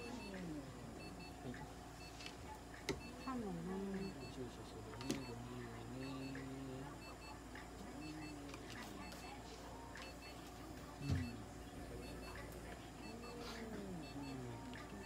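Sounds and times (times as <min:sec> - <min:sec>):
alternating medical equipment beeps: 0:00.0 - 0:15.0.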